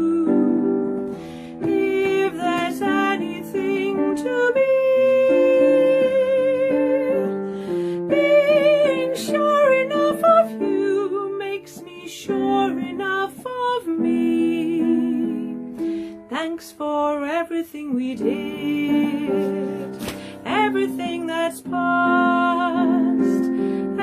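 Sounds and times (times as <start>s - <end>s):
woman singing a ballad: 0.0s - 24.0s.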